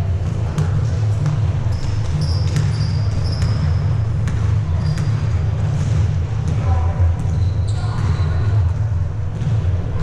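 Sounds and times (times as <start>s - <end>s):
low hum of hall: 0.0s - 10.0s
ball bouncing on gym floor: 0.1s - 10.0s.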